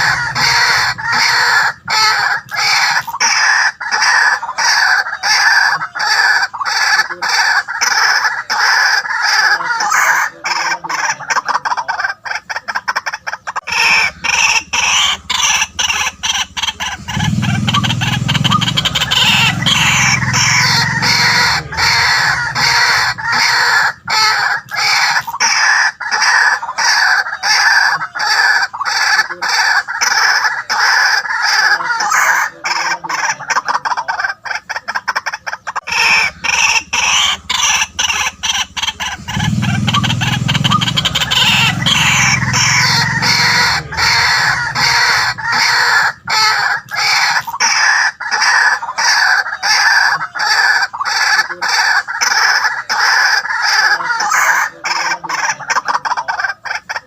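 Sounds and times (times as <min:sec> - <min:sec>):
waterhen calling: 0:00.0 - 0:57.0.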